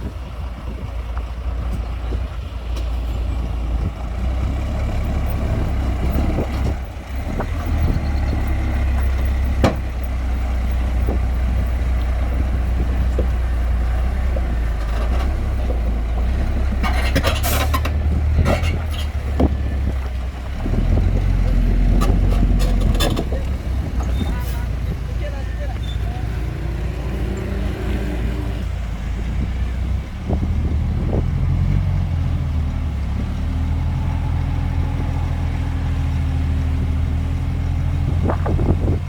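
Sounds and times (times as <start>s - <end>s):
heavy diesel machinery rumbling: 0.0s - 39.0s.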